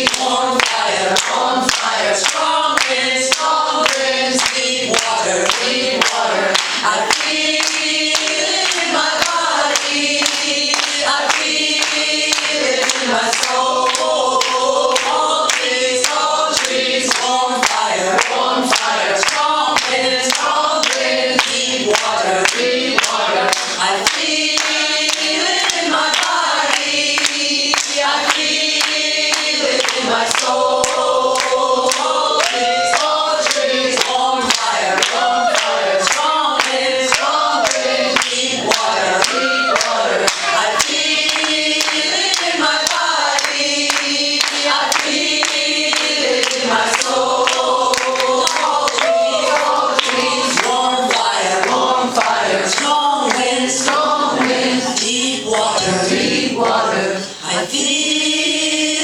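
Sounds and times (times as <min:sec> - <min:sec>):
steady clapping: 0:00.0 - 0:57.0
voices singing along: 0:00.0 - 0:59.0
woman singing into a microphone: 0:00.0 - 0:59.0.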